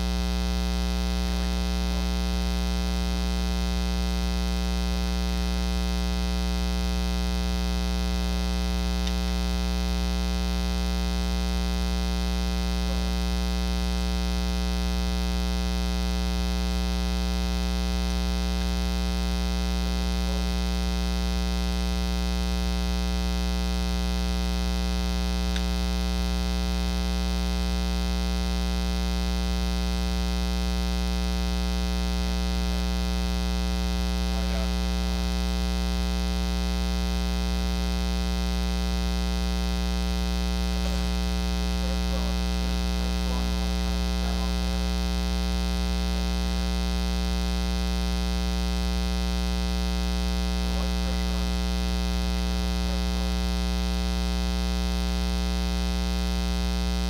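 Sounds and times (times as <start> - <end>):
mains hum: 0.0 - 57.0.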